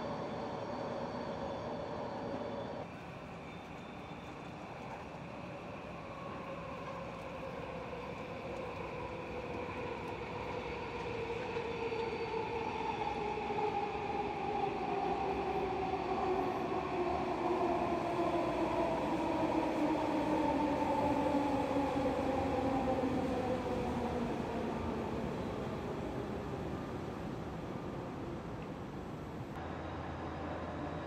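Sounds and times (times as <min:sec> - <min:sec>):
train electric whine: 0:00.0 - 0:31.0.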